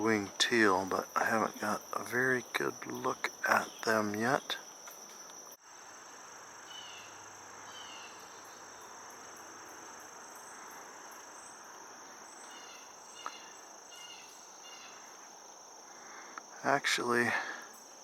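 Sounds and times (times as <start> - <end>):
high-pitched insect chorus: 0.0 - 18.0
short insect chirps: 0.0 - 18.0.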